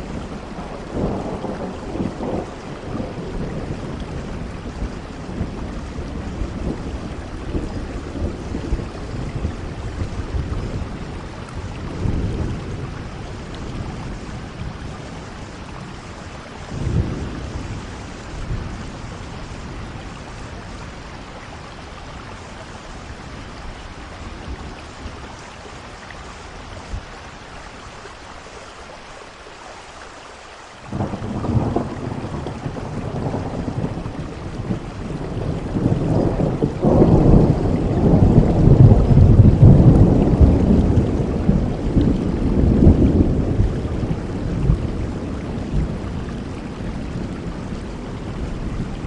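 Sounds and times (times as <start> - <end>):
steady rainfall: 0.0 - 49.0.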